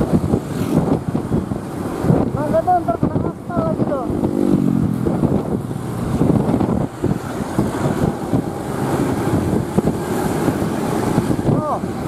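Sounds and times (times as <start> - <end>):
bus engine rough rumble: 0.0 - 12.0
wind buffeting microphone: 0.0 - 12.0.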